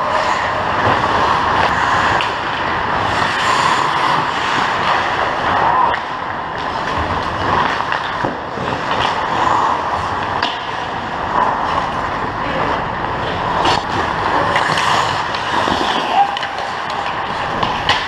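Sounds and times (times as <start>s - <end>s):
stick and puck clacks: 0.0s - 12.0s, 13.0s - 18.0s
skate blades scraping ice: 0.0s - 12.1s, 13.3s - 18.0s.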